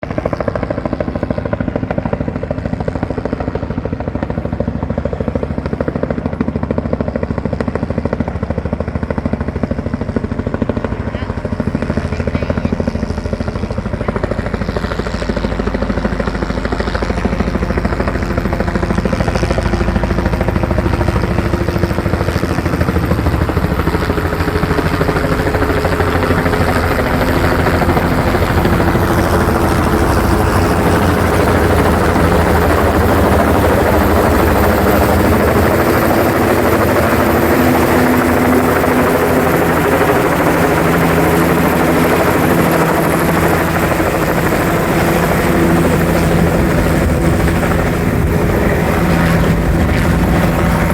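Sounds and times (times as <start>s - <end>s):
helicopter rotor chop: 0.0s - 50.9s.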